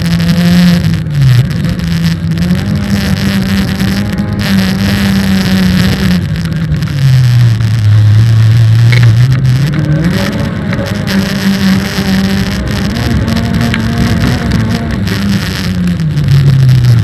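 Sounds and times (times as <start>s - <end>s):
car engine revving: 0.0s - 17.0s
wind and tyre noise: 0.0s - 17.0s.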